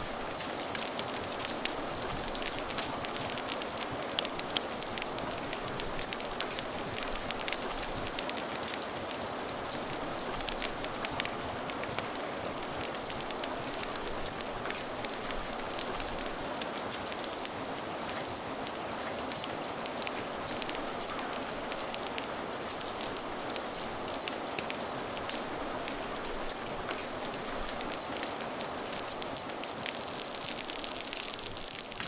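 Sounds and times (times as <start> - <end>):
fire crackling and popping: 0.0 - 32.0
steady rain: 0.0 - 32.0.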